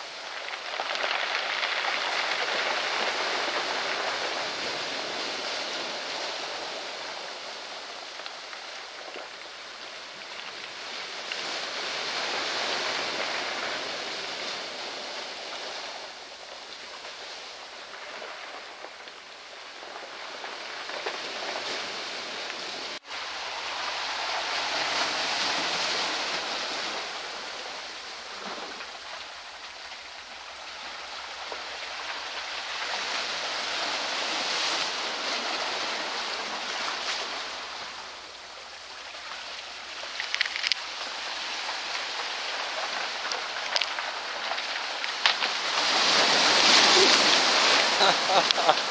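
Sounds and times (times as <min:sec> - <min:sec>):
surf washing over pebbles: 0:00.0 - 0:48.9.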